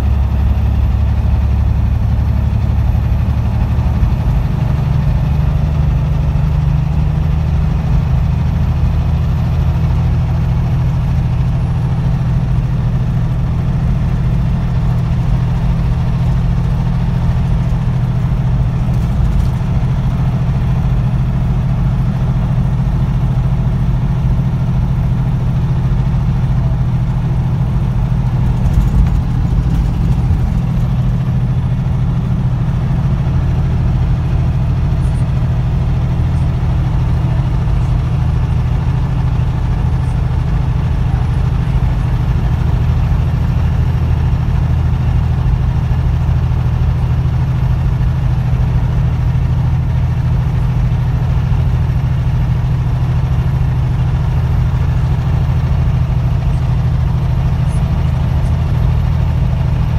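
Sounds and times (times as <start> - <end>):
road noise: 0.0 - 59.9
truck engine drone: 0.0 - 59.9.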